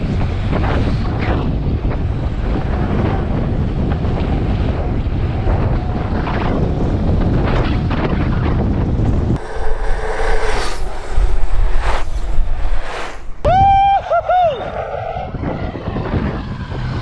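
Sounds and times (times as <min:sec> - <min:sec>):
wind buffeting microphone: 0:00.0 - 0:14.0, 0:15.2 - 0:17.0.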